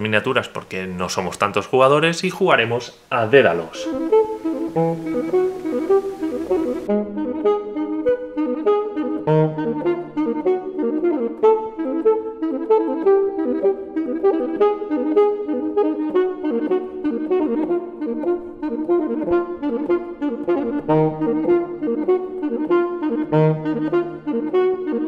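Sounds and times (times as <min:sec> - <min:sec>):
instrumental music with quick melody: 0:03.2 - 0:25.0.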